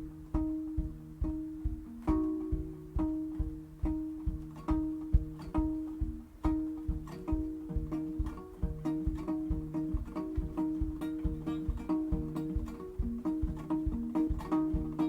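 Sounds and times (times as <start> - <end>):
guitar picking banjo-style melody: 0.0 - 15.0
low thumping beat: 0.0 - 15.0.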